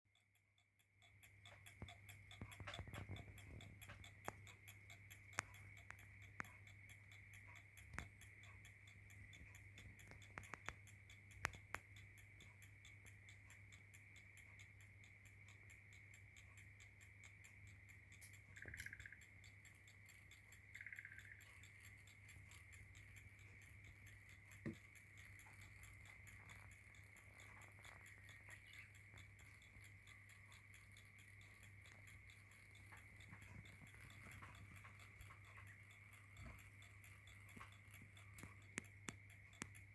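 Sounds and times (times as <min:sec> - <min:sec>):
clock ticking: 0:00.0 - 0:39.9
steady low hum: 0:00.1 - 0:39.9
sharp clicks: 0:01.0 - 0:39.9.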